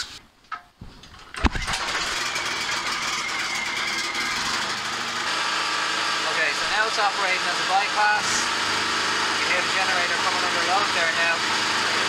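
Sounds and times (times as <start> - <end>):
generator engine starting and running: 1.1 - 12.0.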